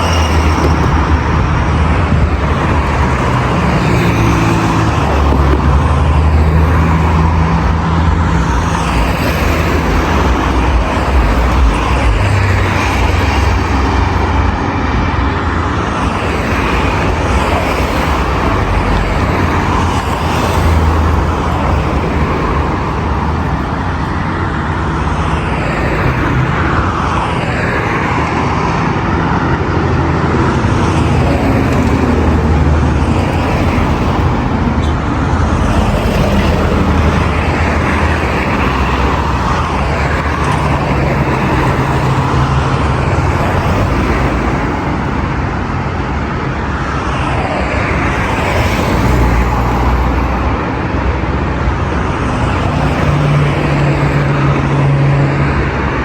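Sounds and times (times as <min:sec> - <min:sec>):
heavy road traffic: 0:00.0 - 0:56.0
vehicles passing close by: 0:00.0 - 0:56.0.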